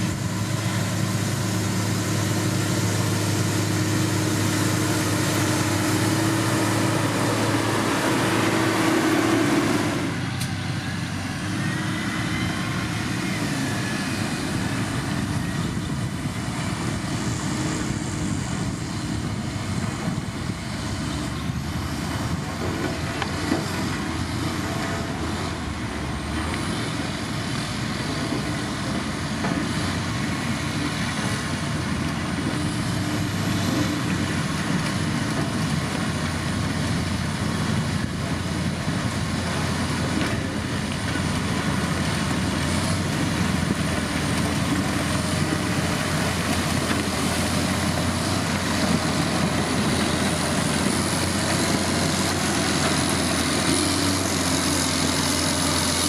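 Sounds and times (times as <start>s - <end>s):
heavy diesel machinery engine: 0.0s - 56.0s.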